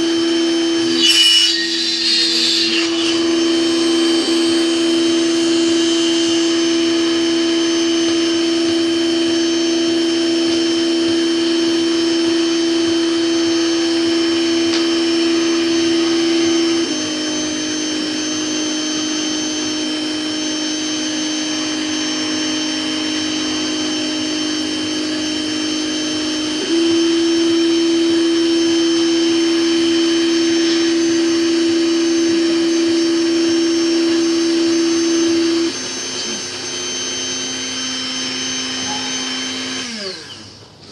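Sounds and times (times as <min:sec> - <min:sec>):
mini mill motor whining: 0:00.0 - 0:40.8.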